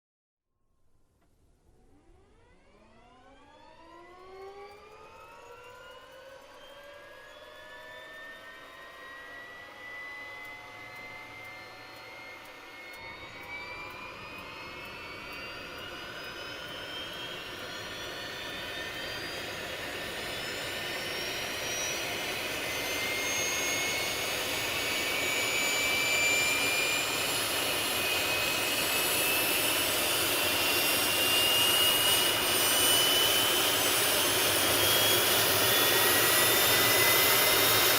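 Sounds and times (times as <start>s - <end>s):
jet engine whine: 1.7s - 37.9s.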